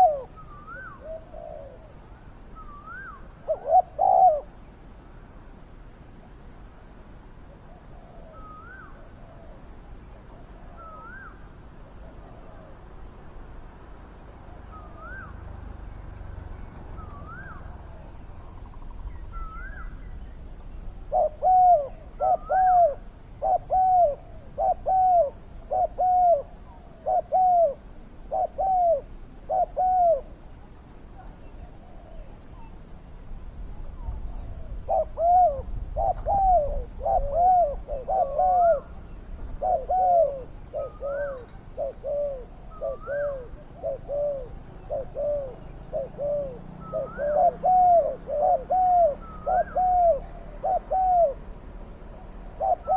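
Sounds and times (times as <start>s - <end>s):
doves cooing: 0.0s - 4.6s, 7.5s - 13.0s, 14.3s - 33.0s, 33.9s - 52.9s
faint higher bird calls: 0.0s - 5.3s, 7.4s - 13.0s, 14.3s - 52.9s.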